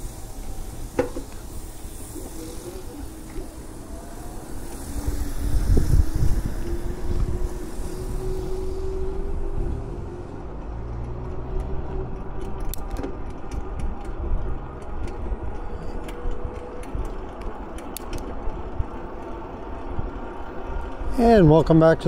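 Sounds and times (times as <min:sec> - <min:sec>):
electric motor whine: 0:00.0 - 0:21.0
bike clicks and rattles: 0:00.0 - 0:21.1
tyre and wind noise: 0:00.0 - 0:22.0.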